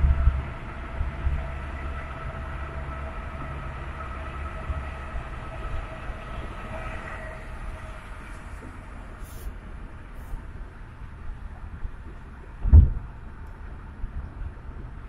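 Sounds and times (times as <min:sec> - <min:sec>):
car road noise rumble: 0:00.0 - 0:15.0
steady whine: 0:00.0 - 0:15.0.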